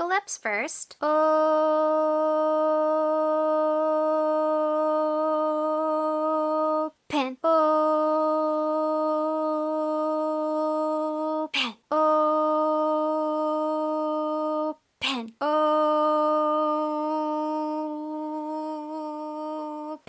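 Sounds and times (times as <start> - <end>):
person holding oh vowel: 1.1 - 20.0.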